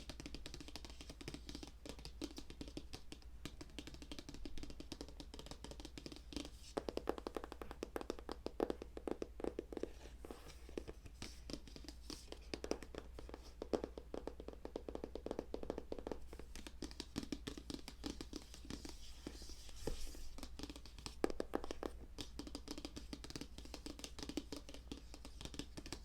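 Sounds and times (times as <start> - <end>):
fast tapping on hard object: 0.0 - 26.0.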